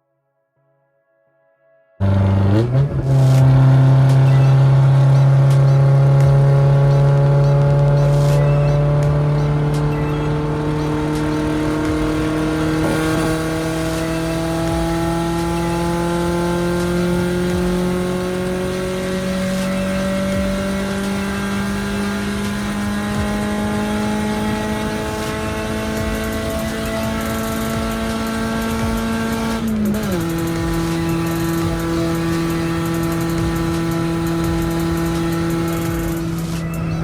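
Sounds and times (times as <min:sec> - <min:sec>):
car engine accelerating: 0:02.0 - 0:37.0.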